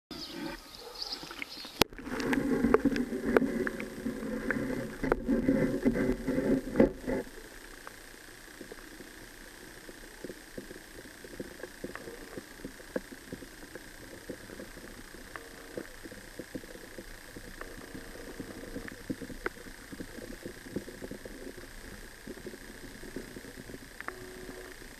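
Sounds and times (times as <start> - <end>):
muffled underwater hiss: 0.2 - 24.9
churning water with clicks: 1.3 - 24.9.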